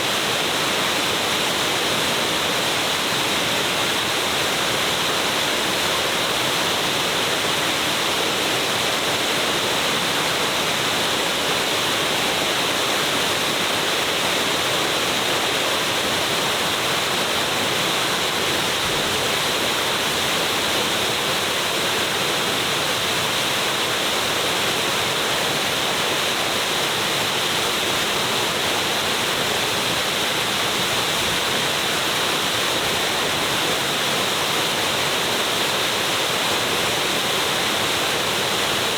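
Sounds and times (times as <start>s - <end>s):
waterfall crashing: 0.0s - 38.9s.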